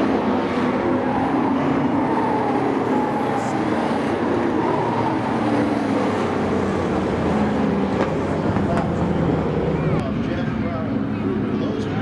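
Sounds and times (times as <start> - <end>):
race truck engines droning: 0.0 - 12.0.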